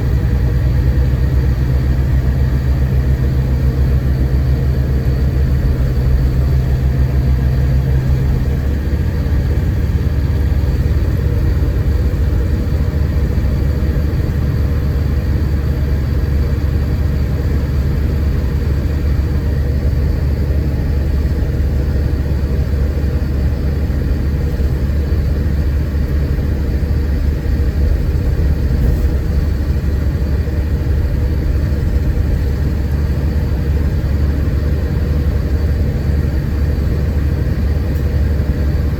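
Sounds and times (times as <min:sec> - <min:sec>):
bus engine rumble inside cabin: 0:00.0 - 0:38.9
engine hum: 0:00.0 - 0:38.9.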